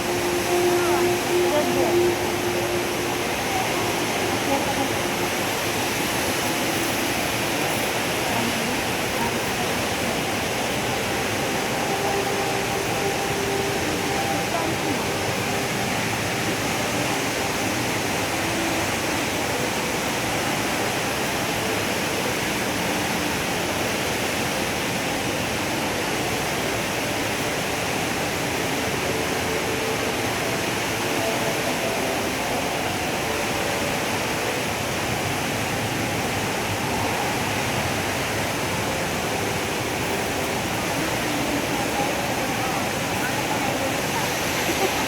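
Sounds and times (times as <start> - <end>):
indoor waterfall roaring: 0.0 - 45.0.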